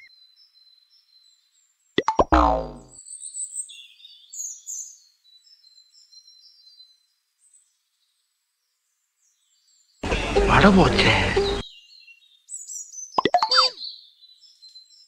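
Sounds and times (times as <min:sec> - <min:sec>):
small birds chirping: 0:00.0 - 0:10.0, 0:11.3 - 0:15.0.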